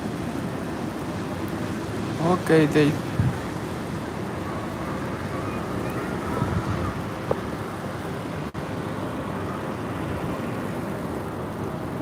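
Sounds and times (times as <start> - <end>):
passing cars rumble and hiss: 0.0 - 12.0.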